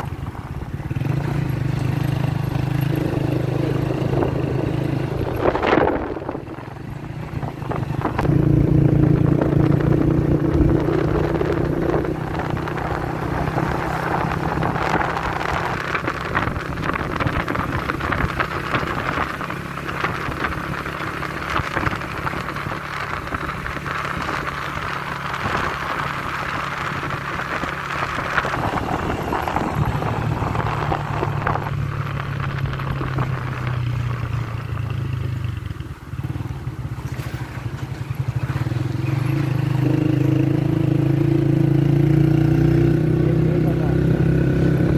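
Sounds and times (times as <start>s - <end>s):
wind rushing over microphone: 0.0s - 36.9s, 37.5s - 44.9s
small motorcycle engine running: 0.0s - 44.9s.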